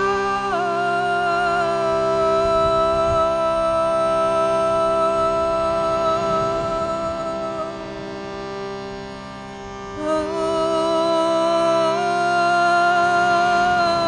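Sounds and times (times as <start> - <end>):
woman singing long notes: 0.0 - 8.0, 10.0 - 14.0
shruti box drone: 0.0 - 14.0.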